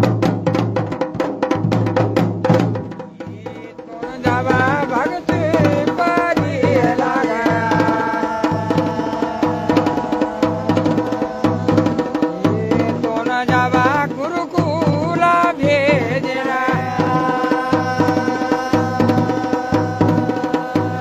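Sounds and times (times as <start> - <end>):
drums playing steady beat: 0.0 - 21.0.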